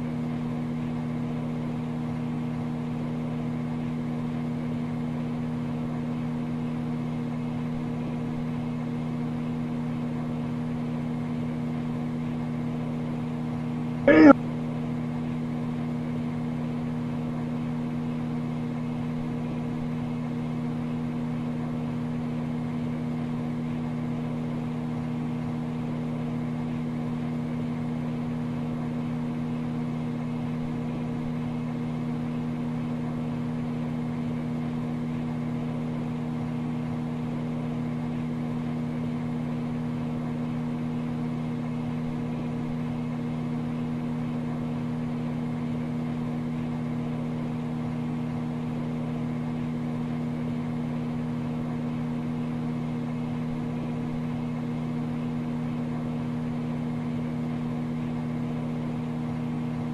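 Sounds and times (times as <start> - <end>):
microwave oven humming: 0.0 - 59.9.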